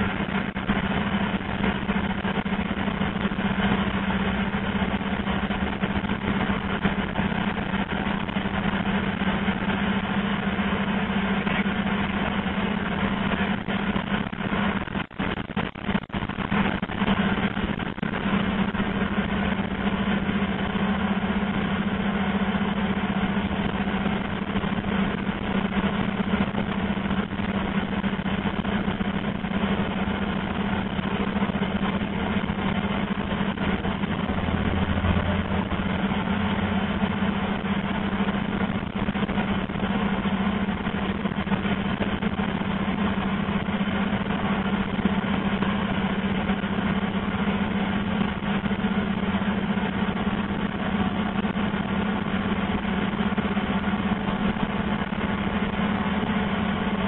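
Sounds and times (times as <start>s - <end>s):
cable blowing rig droning: 0.0s - 57.0s.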